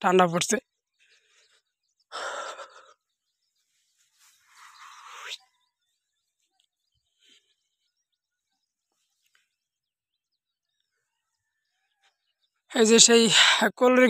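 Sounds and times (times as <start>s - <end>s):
faint distant bird chirps: 0.0s - 13.3s.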